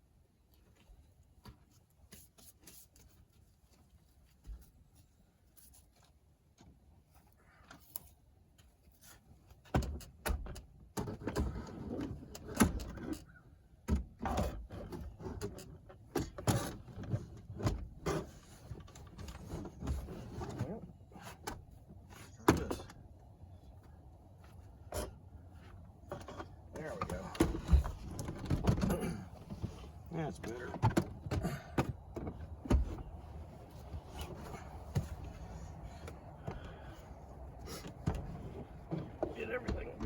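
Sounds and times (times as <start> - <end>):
knocks and rustling of parts: 6.5 - 23.2, 23.8 - 40.0.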